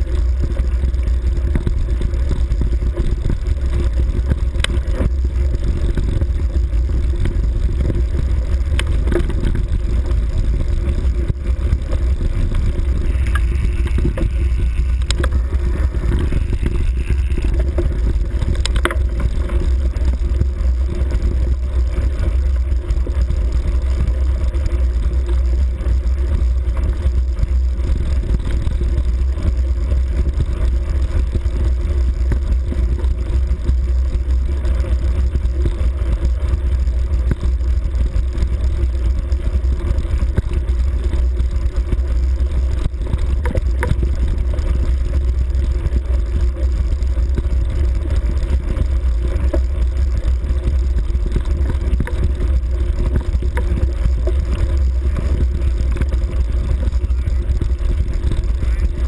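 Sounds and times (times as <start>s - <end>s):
vehicle rumbling on a track: 0.0s - 59.0s
wind on microphone: 0.0s - 59.0s.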